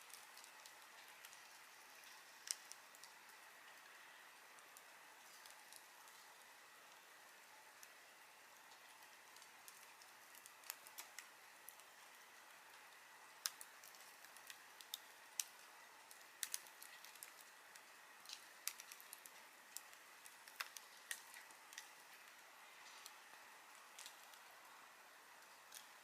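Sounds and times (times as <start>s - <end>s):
campfire crackling and popping: 0.0s - 26.0s
faint steady hiss: 0.0s - 26.0s.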